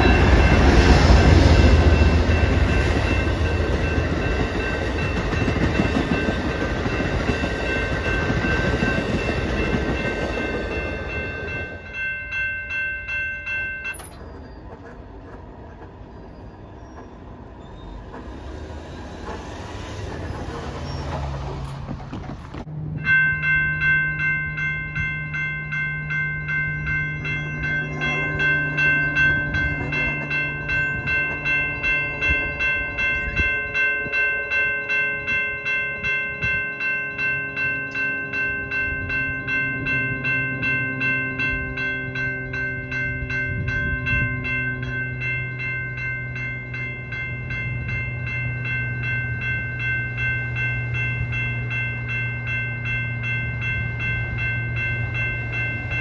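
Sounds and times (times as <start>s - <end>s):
crossing bells ringing: 0.0s - 22.0s, 22.6s - 56.0s
diesel train rushing past: 0.0s - 56.0s.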